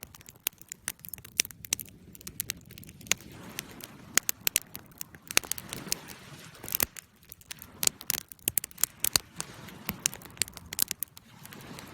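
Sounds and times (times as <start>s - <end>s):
fire crackling: 0.0s - 11.9s.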